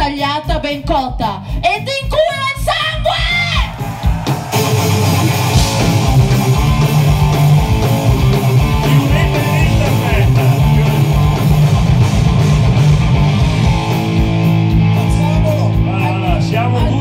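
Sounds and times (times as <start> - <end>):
live rock band playing: 0.1 - 17.0.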